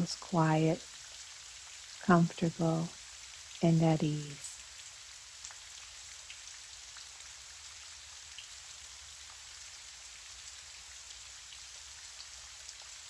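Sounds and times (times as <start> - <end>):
gentle rain hiss: 0.0 - 13.0.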